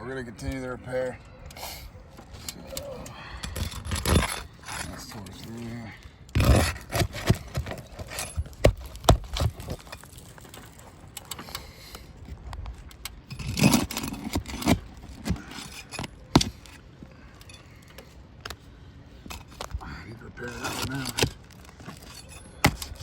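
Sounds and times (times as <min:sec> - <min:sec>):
scraping: 0:01.5 - 0:11.8, 0:12.9 - 0:18.6, 0:19.2 - 0:23.0
shingles clicking and cracking: 0:01.5 - 0:18.6, 0:19.2 - 0:23.0.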